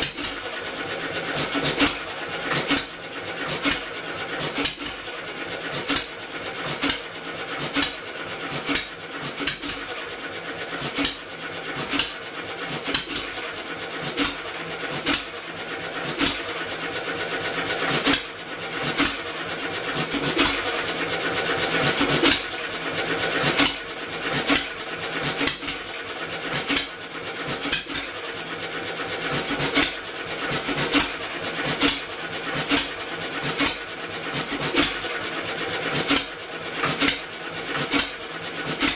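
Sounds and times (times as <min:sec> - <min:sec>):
engine firing in sharp pops: 0:00.0 - 0:00.5, 0:01.2 - 0:09.9, 0:10.7 - 0:15.4, 0:16.0 - 0:16.6, 0:17.8 - 0:19.3, 0:19.9 - 0:20.8, 0:21.7 - 0:22.6, 0:23.3 - 0:28.2, 0:29.2 - 0:35.2, 0:35.8 - 0:38.9
engine mechanical whir: 0:00.0 - 0:38.9.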